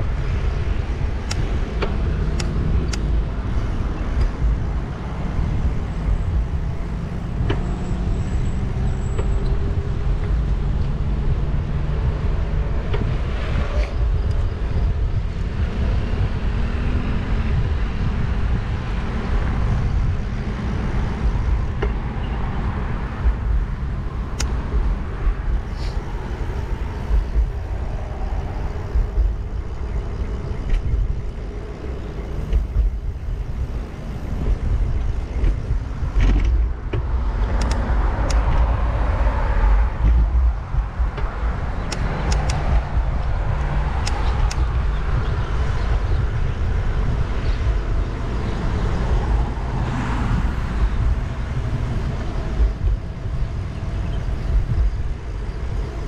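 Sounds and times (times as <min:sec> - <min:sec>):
cars passing: 0:00.0 - 0:56.0
wind rumble on microphone: 0:00.0 - 0:56.0.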